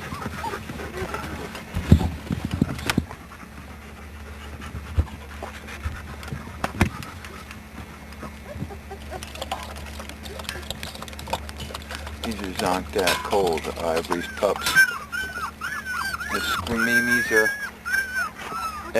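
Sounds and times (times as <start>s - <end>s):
dog panting: 0.0s - 18.9s
low steady hum: 0.0s - 18.9s.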